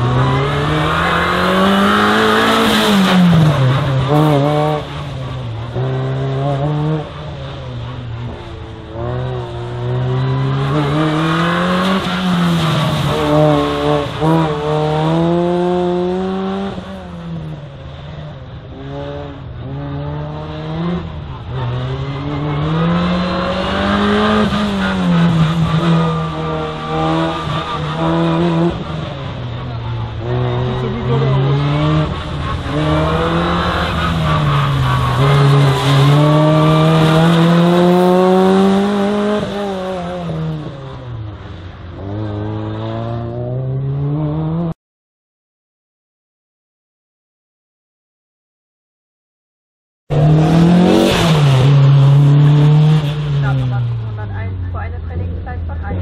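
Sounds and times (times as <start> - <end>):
race car engine revving: 0.0 - 17.6, 18.2 - 44.8, 50.1 - 56.0.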